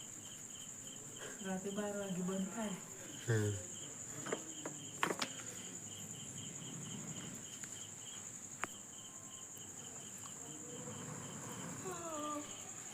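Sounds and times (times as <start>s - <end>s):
insects chirping: 0.0s - 12.9s
pulsing insect call: 0.0s - 12.9s.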